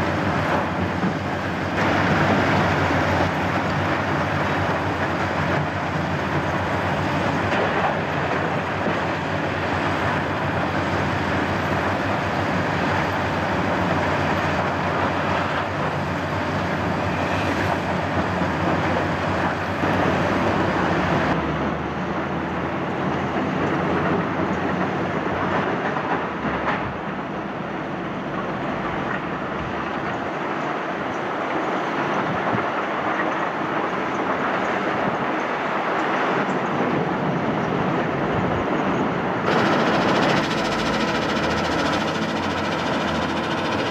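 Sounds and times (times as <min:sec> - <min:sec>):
diesel engines droning: 0:00.0 - 0:43.9.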